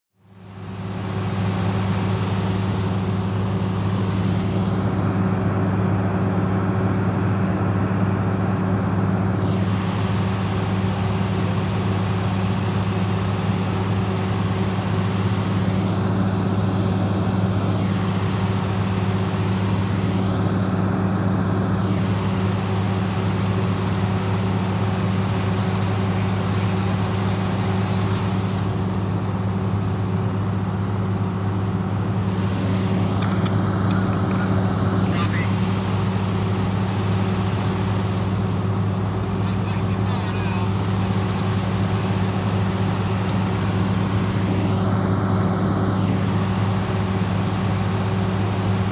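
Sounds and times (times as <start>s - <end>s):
engine and pump humming: 0.1s - 48.9s.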